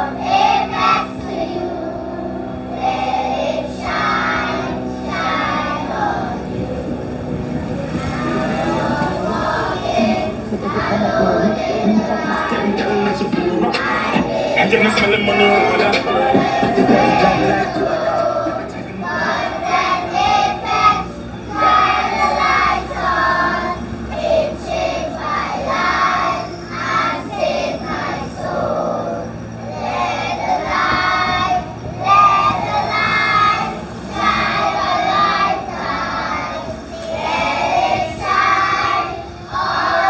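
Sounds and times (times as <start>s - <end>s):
children singing in unison: 0.0s - 40.0s.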